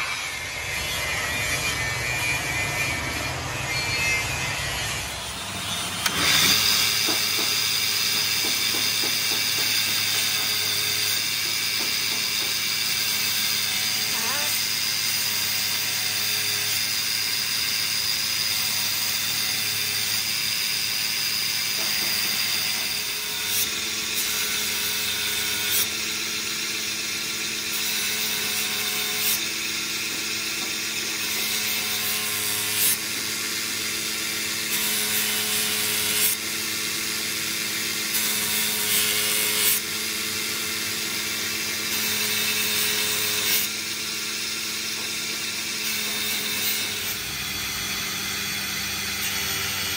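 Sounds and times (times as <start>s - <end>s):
grinder motor hum: 0.0s - 49.9s.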